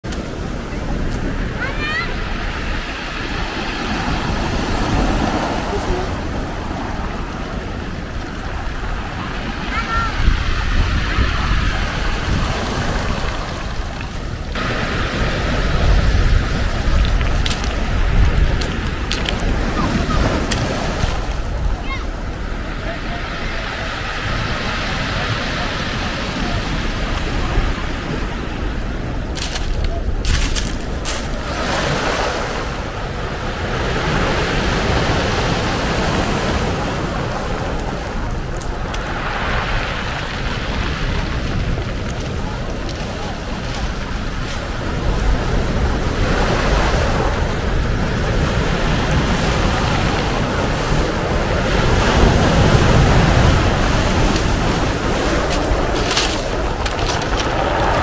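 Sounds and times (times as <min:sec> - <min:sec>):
waves breaking on rocks: 0:00.0 - 0:58.0.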